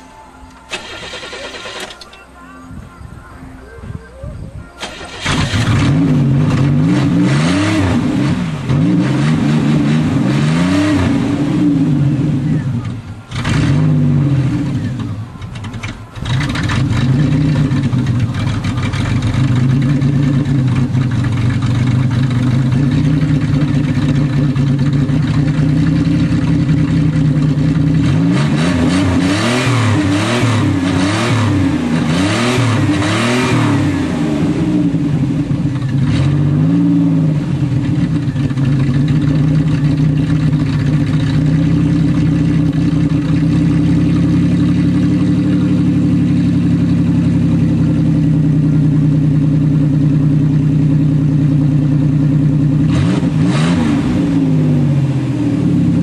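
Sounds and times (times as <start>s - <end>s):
car engine running and revving: 4.8s - 56.0s.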